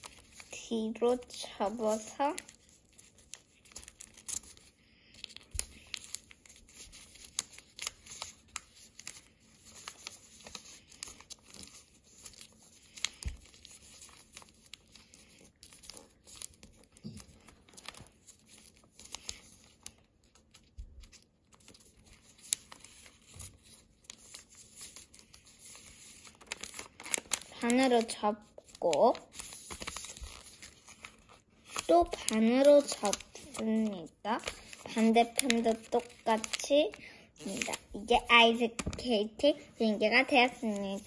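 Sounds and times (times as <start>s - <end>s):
paper crinkling and rustling: 0.0s - 41.0s.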